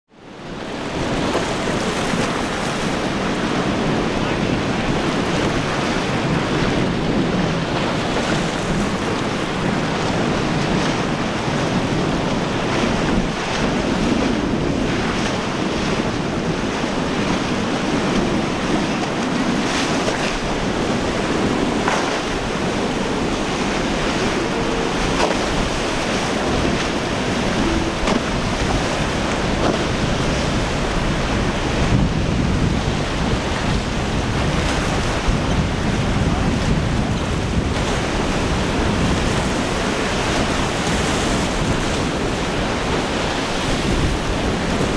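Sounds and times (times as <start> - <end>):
surf and waves churning: 0.1 - 44.9
wind buffeting the microphone: 0.2 - 44.9
outboard motors running: 0.3 - 44.9.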